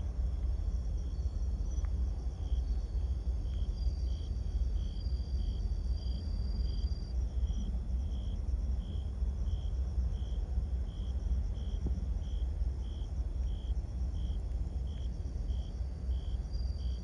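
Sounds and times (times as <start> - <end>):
crickets chirping: 0.0 - 17.0
high insect trill: 0.0 - 17.0.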